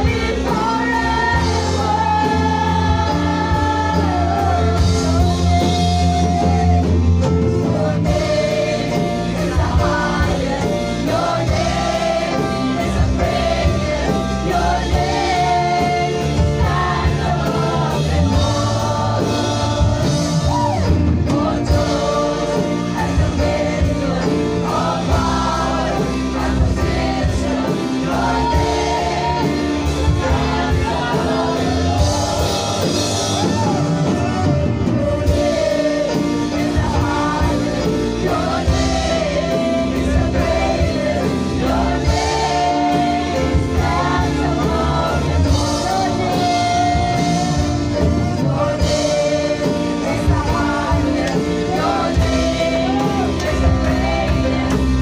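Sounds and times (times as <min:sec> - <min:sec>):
drum kit and cymbals: 0:00.0 - 0:55.0
worship band music: 0:00.0 - 0:55.0.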